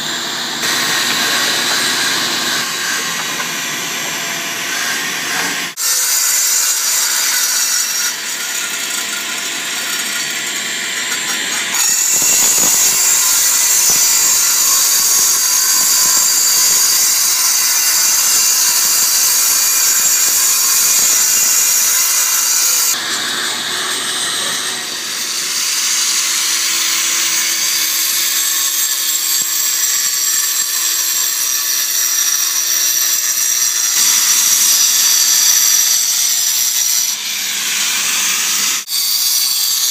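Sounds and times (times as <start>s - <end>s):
power saw cutting concrete: 0.0s - 39.9s.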